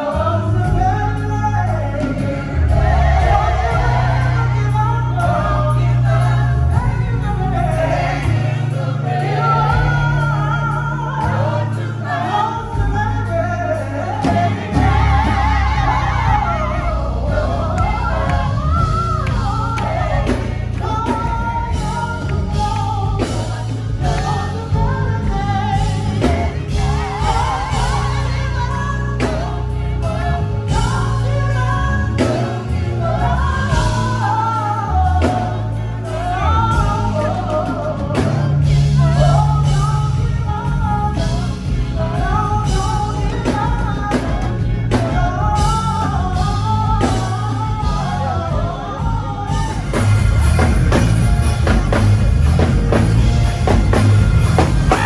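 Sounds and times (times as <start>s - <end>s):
song with singing drums and bass: 0.0s - 55.0s.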